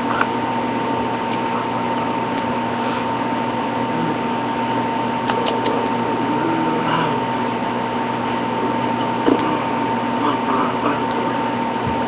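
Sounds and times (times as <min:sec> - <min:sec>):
high-pitched whine: 0:00.0 - 0:12.0
low hum: 0:00.0 - 0:12.0.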